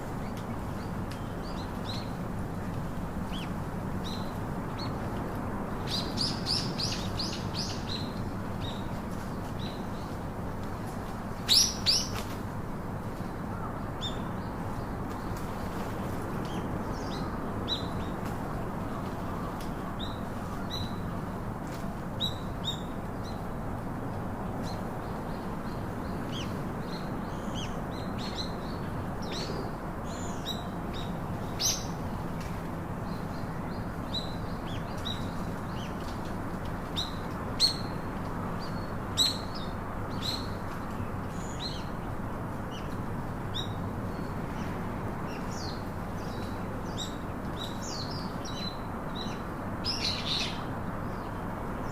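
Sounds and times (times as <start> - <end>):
low background hum: 0.0 - 51.9
songbirds chirping and twittering: 0.0 - 51.9.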